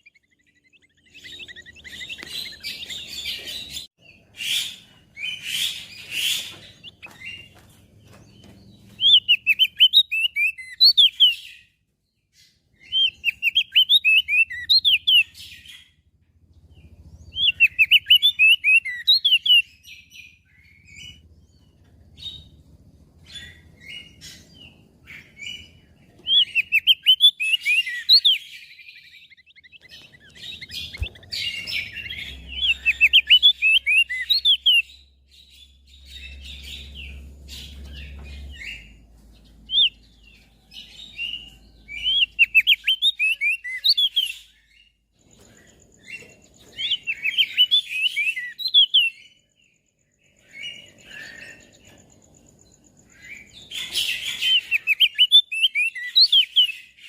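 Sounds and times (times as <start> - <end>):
bird singing chattering phrases: 0.0 - 11.7, 12.4 - 22.6, 23.2 - 49.6, 53.1 - 57.0.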